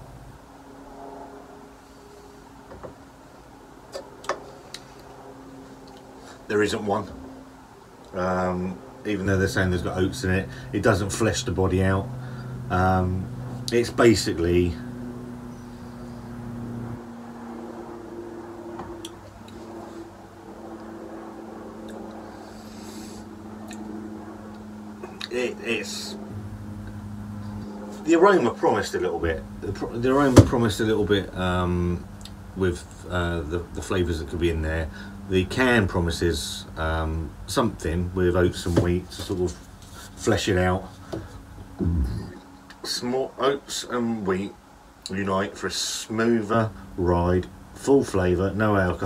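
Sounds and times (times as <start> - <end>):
low hum: 0.0 - 49.0
motor drone: 0.0 - 49.0.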